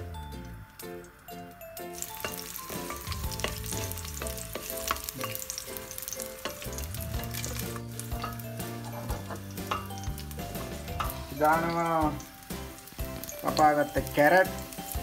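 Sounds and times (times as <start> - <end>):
background music: 0.0 - 15.0
garlic sizzling in hot oil: 1.8 - 15.0.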